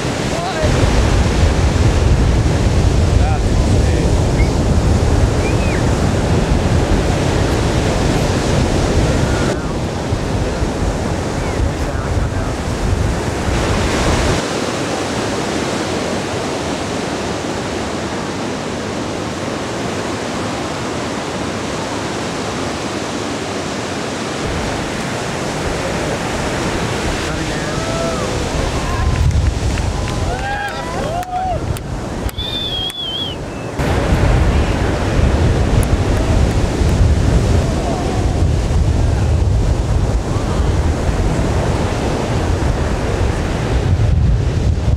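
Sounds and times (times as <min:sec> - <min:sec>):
ocean waves crashing: 0:00.0 - 0:44.9
wind rumble on microphone: 0:00.0 - 0:44.9.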